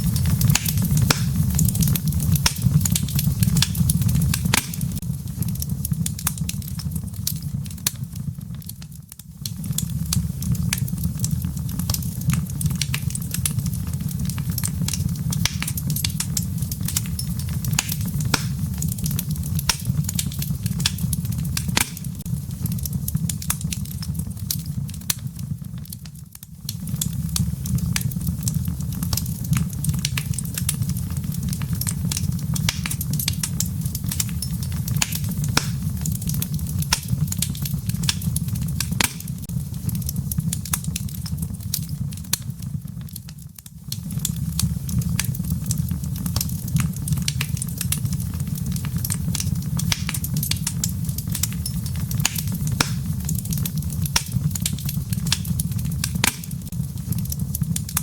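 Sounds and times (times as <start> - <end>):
low rumble of flame: 0.0 - 58.0
wood fire crackling: 0.0 - 58.0.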